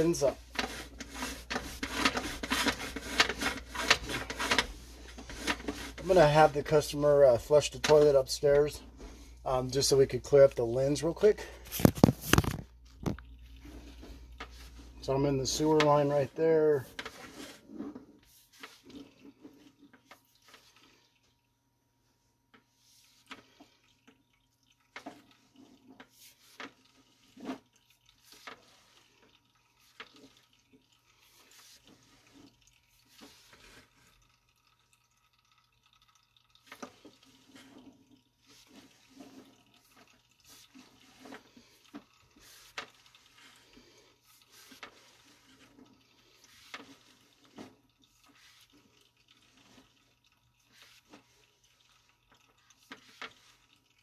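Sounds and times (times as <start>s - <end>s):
faint electrical hum: 0.0s - 54.0s
water dripping in sewer pipe: 0.0s - 54.0s.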